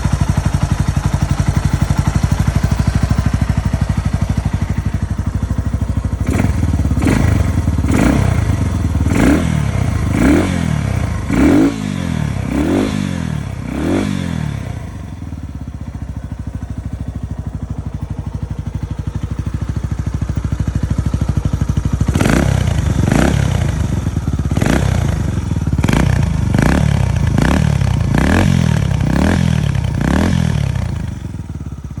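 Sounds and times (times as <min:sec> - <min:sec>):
motorcycle engine revving and idling: 0:00.0 - 0:32.0.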